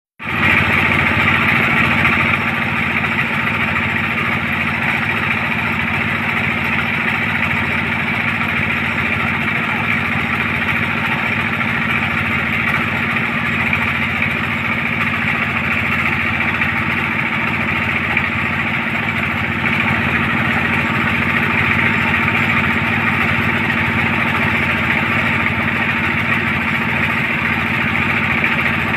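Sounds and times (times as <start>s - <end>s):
drilling rig engine running: 0.2s - 28.9s.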